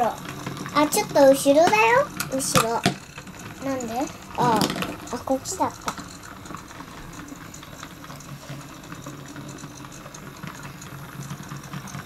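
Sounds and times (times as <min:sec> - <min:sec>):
rapid clicking on plastic track: 0:00.0 - 0:12.0
toy car motor whirring: 0:00.0 - 0:12.0.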